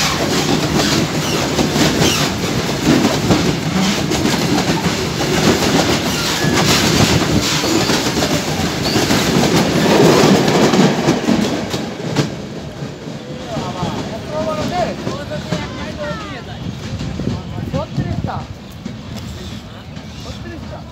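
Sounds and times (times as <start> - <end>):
train wheels clattering on rails: 0.0 - 20.9.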